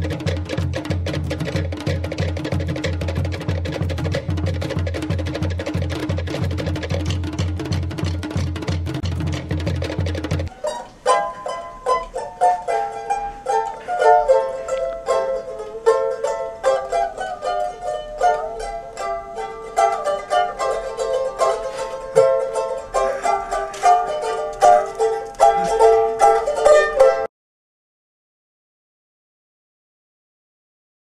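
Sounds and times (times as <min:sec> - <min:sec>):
plucked string instrument melody: 0:00.0 - 0:27.3.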